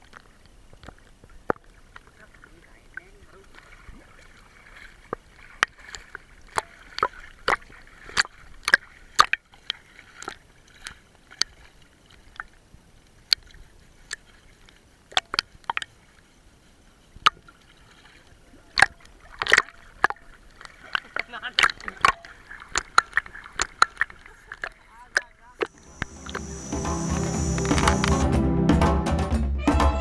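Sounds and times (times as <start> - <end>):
water splashing and sloshing: 0.0 - 28.3.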